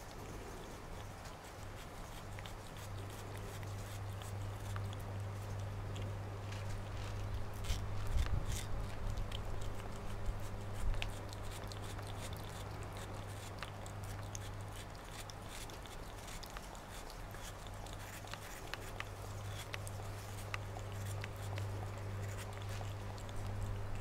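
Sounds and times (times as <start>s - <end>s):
cat licking and chewing: 0.0s - 24.0s
steady low hum: 0.0s - 24.0s.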